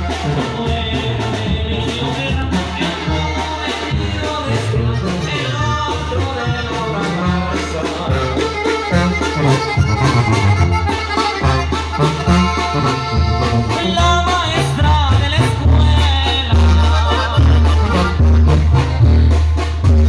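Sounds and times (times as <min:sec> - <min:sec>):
pulsing bass line: 0:00.0 - 0:20.0
wind band playing: 0:00.0 - 0:20.0.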